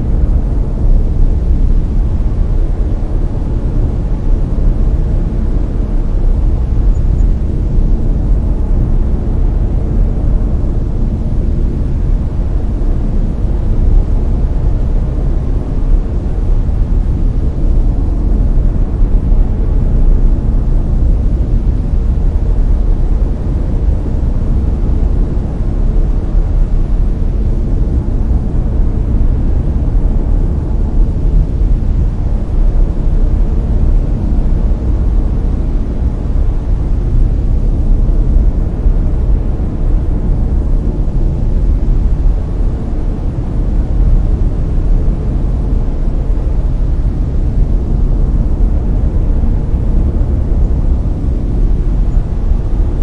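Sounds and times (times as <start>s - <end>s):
deep brown noise: 0.0s - 53.0s.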